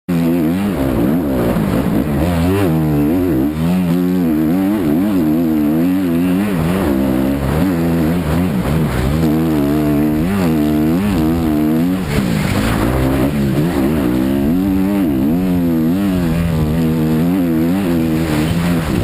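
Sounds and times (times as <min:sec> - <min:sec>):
motocross bike engine revving: 0:00.1 - 0:19.0.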